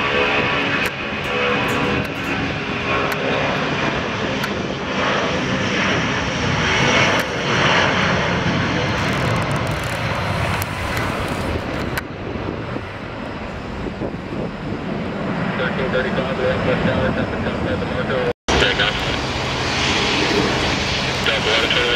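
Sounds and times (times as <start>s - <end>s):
jet engines passing: 0.0s - 21.9s.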